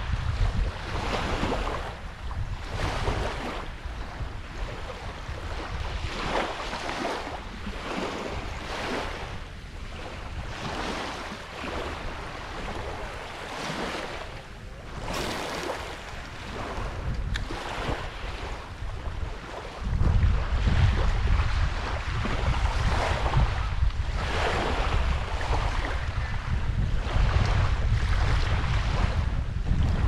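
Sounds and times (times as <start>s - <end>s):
small waves lapping on sand: 0.0s - 30.0s
wind rumble on microphone: 0.0s - 30.0s.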